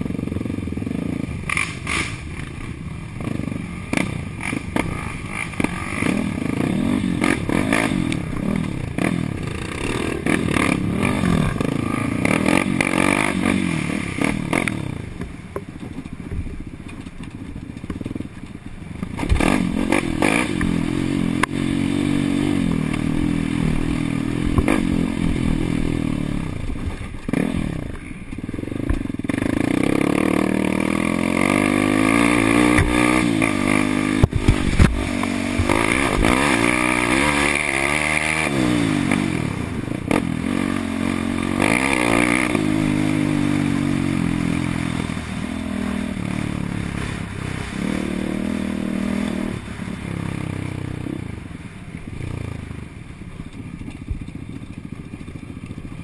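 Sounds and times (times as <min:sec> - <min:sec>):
quad engine revving: 0:00.0 - 0:15.2, 0:19.0 - 0:51.6.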